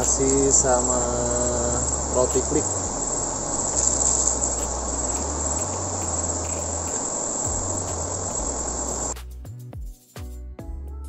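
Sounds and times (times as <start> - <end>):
river current rushing: 0.0 - 9.2
shrill insect chorus: 0.0 - 9.2
music: 0.0 - 11.0.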